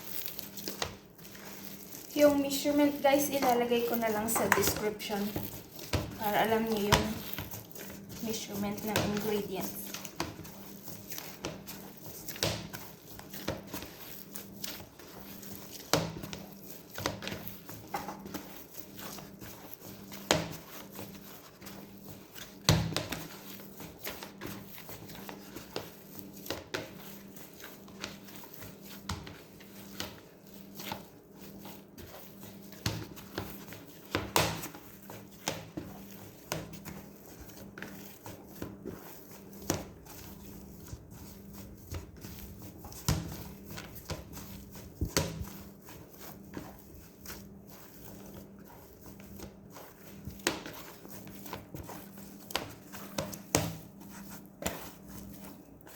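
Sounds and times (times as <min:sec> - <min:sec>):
dough thumping and slapping: 0:00.0 - 0:55.9.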